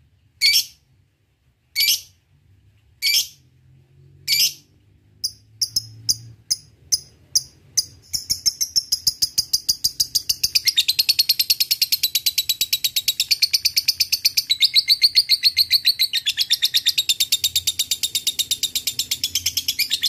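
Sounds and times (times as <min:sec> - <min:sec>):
lovebird chirping and chattering: 0:00.4 - 0:00.8, 0:01.8 - 0:02.2, 0:03.0 - 0:03.4, 0:04.3 - 0:20.0.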